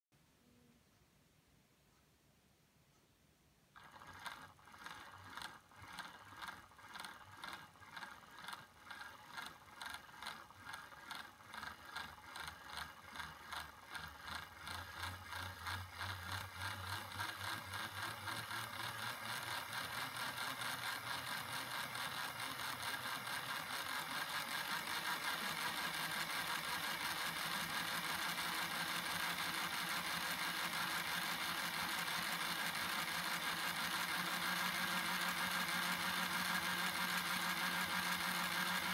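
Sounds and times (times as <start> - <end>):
toy train plastic clatter and whir: 3.8 - 38.9.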